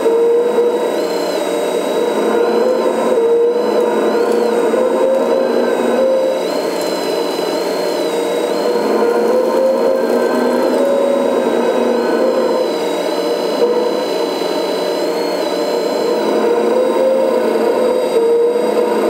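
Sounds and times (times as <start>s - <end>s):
hydraulic pump whining: 0.0s - 19.0s.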